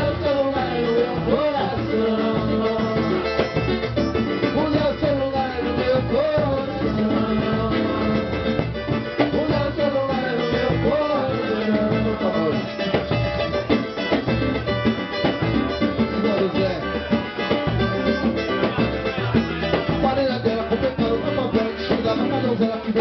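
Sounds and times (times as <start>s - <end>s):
plucked strings: 0.0s - 23.0s
samba percussion rhythm: 0.0s - 23.0s.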